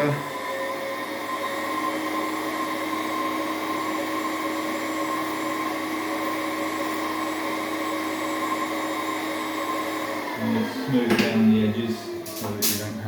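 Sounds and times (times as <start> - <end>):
nail drill whining: 0.1 - 12.6.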